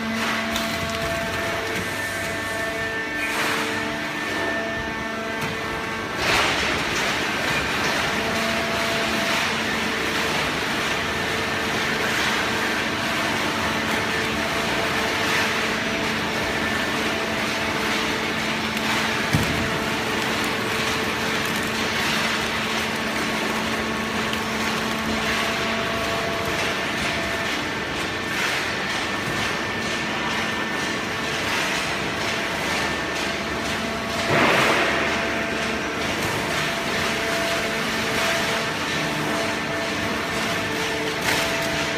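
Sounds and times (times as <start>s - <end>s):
baling press machine hum: 0.0s - 41.9s.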